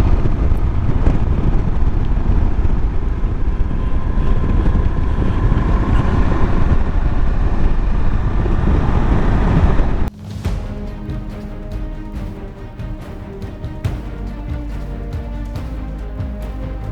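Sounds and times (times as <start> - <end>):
heavy wind rush: 0.0 - 15.1.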